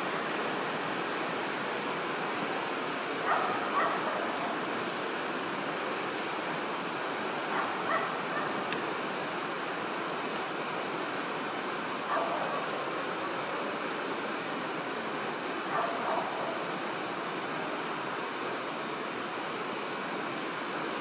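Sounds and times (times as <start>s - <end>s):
campfire crackling and popping: 1.6s - 20.7s.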